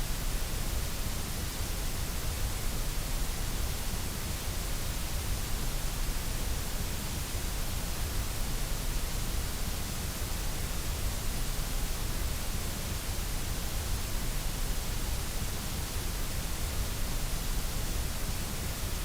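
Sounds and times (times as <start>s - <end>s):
white noise hiss: 0.0s - 19.0s.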